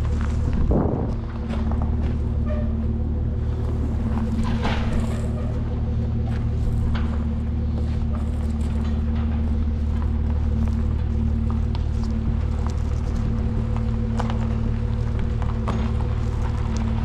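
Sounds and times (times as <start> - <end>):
large vehicle engine idling: 0.0 - 17.0
clanks and knocks: 0.4 - 17.0.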